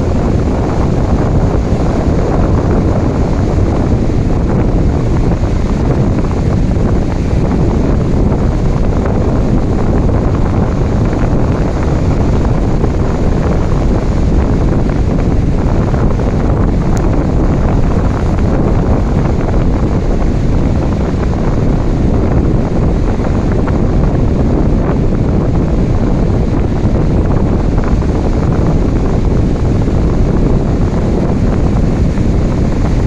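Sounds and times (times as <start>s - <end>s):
ocean waves rushing: 0.0s - 33.0s.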